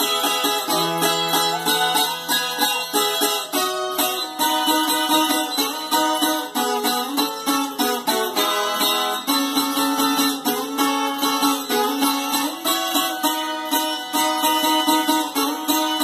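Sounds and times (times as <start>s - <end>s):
plucked folk guitar: 0.0s - 16.0s.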